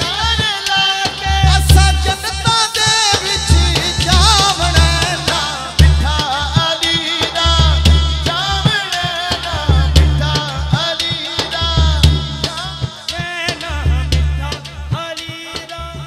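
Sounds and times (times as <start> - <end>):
heavy drum strokes: 0.0 - 16.0
man singing devotional song: 0.0 - 16.0.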